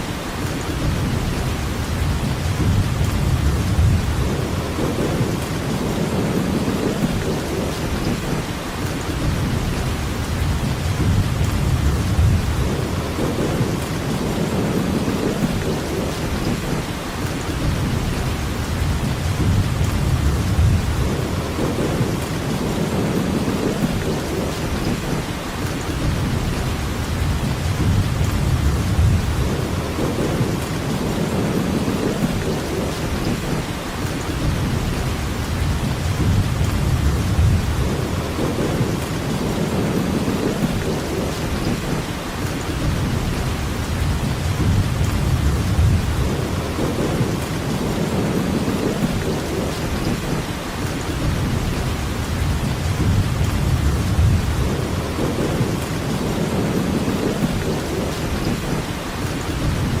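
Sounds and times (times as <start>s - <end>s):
heavy rainfall: 0.0s - 60.0s.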